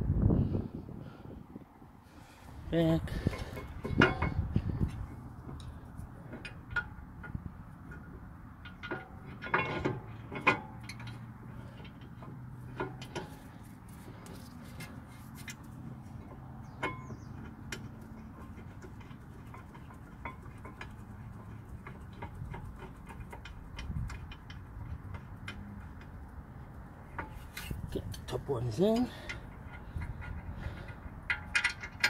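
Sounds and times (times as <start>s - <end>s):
metallic clicks and knocks: 3.3s - 32.0s.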